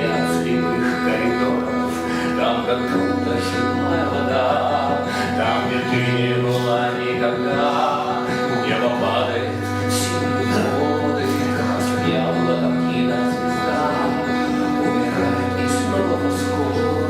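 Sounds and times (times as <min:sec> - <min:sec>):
live song with instruments: 0:00.0 - 0:17.0
low bass notes: 0:00.0 - 0:17.0
person singing: 0:00.0 - 0:17.0.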